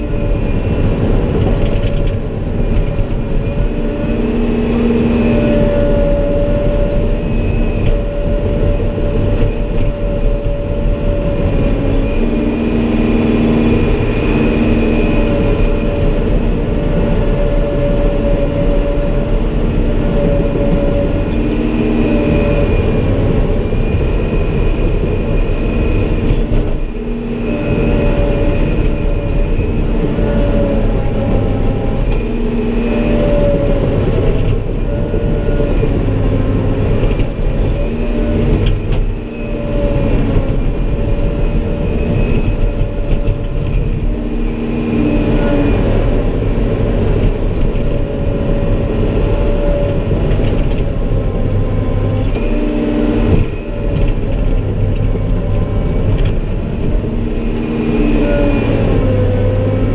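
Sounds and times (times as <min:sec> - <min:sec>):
diesel engine under load: 0:00.0 - 0:59.9
hydraulic whine: 0:00.0 - 0:59.9.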